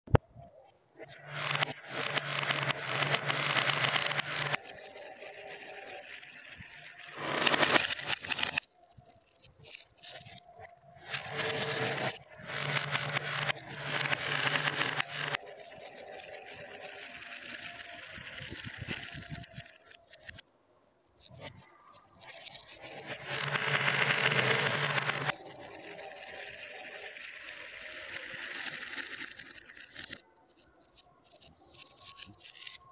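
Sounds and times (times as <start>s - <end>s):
glass marbles rolling and rattling: 1.1s - 20.4s, 21.2s - 32.9s.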